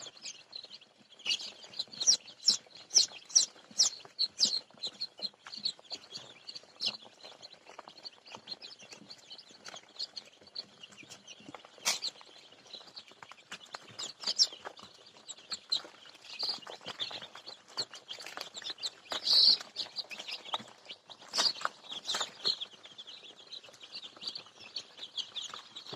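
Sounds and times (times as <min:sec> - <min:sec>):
chickens chirping and clucking: 0:00.0 - 0:25.9.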